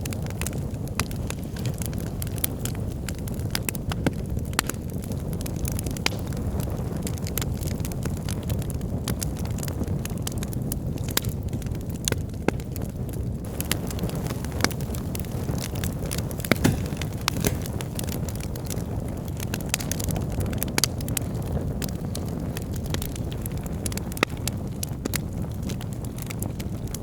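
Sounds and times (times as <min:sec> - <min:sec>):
fire crackling and popping: 0:00.0 - 0:27.0
low rumble of flame: 0:00.0 - 0:27.0.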